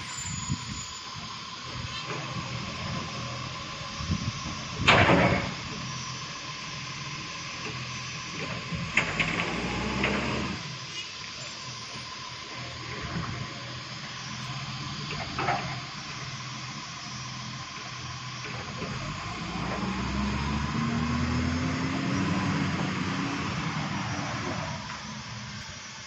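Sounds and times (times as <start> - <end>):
garbage truck diesel engine: 0.0 - 26.0.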